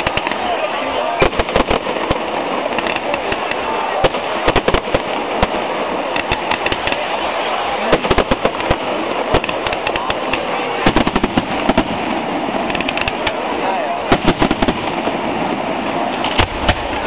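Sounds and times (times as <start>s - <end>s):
fireworks bursting in bangs: 0.0s - 17.0s
fireworks crackling: 0.0s - 17.0s.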